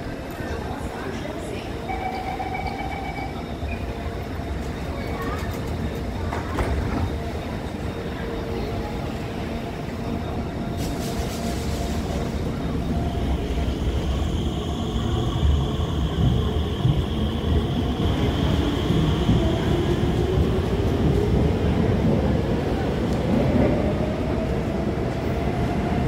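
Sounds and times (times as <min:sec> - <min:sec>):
high-pitched train whine: 0:00.0 - 0:25.4
train wheels rumbling on rails: 0:03.7 - 0:26.0.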